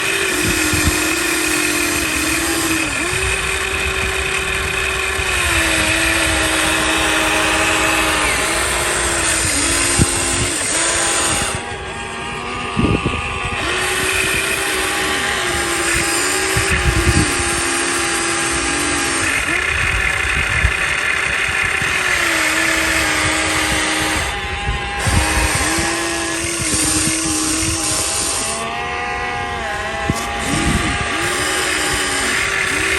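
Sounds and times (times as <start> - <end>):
toy excavator motors whining: 0.0 - 32.9.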